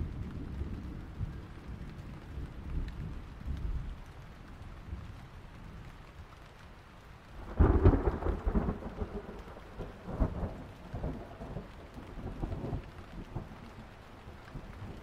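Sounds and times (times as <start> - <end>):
thunder crackling and rumbling: 0.0 - 6.2, 7.2 - 15.0
steady rain: 0.0 - 15.0.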